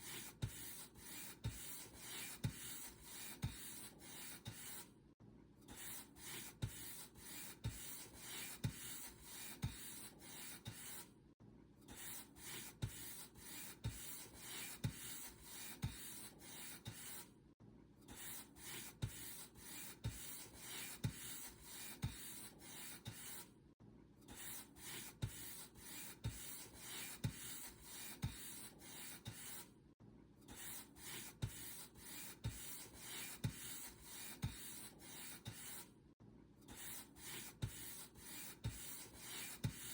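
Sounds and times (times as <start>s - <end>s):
paint brush stroking a surface: 0.0s - 4.9s, 5.8s - 11.1s, 12.0s - 17.3s, 18.2s - 23.4s, 24.4s - 29.7s, 30.6s - 35.9s, 36.7s - 39.9s.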